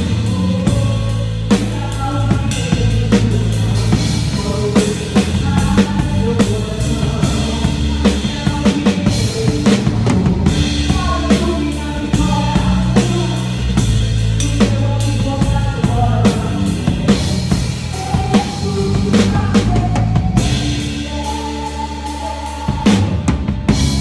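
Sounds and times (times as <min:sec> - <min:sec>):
drum kit beat: 0:00.0 - 0:24.0
live band playing: 0:00.0 - 0:24.0.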